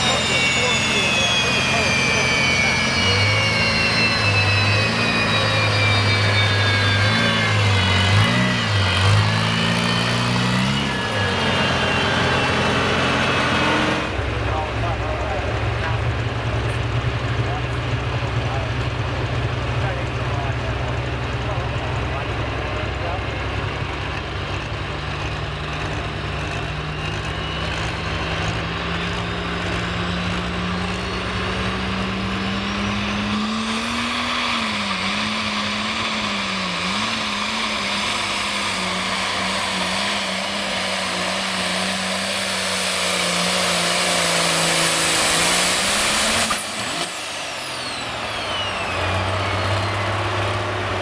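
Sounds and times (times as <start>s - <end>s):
low engine hum: 0.0s - 51.0s
turbine engine whine: 0.0s - 51.0s.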